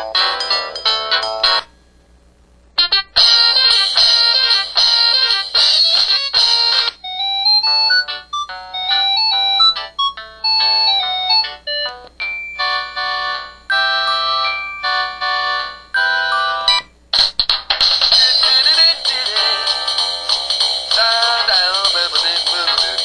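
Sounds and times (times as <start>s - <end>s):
phone ringtone melodies: 0.0s - 1.7s, 2.9s - 16.8s, 18.1s - 23.0s.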